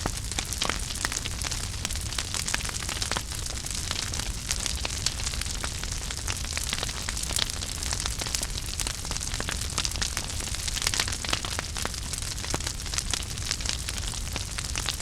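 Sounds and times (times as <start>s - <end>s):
fire crackling and popping: 0.0s - 15.0s
fire hiss and low rumble: 0.0s - 15.0s.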